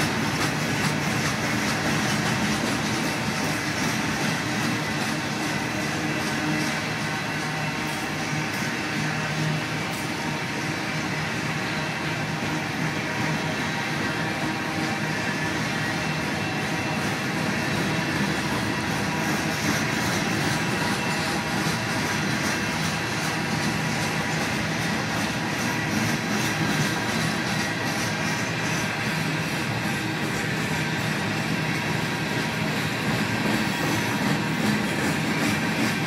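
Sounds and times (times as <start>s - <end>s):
steel wheels rumbling on rail: 0.0s - 36.0s.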